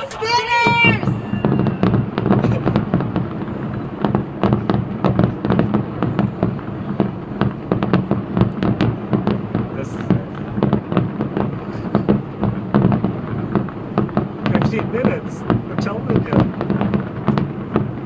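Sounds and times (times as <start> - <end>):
fireworks popping and banging: 0.0 - 18.0.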